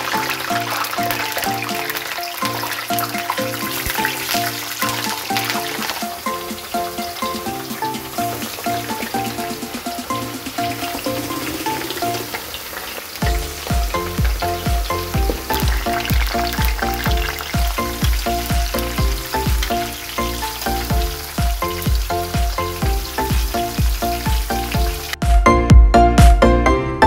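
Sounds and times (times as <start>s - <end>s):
electronic background music: 0.0s - 12.6s, 13.2s - 27.0s
vegetables deep-frying in oil: 0.0s - 25.2s.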